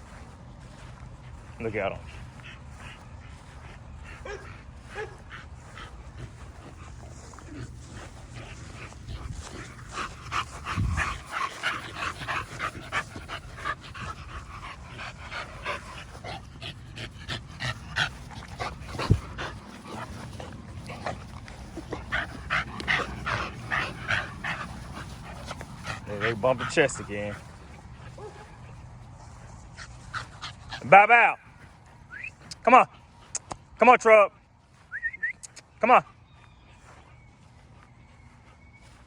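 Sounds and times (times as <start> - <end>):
puppies panting: 0.0 - 33.8.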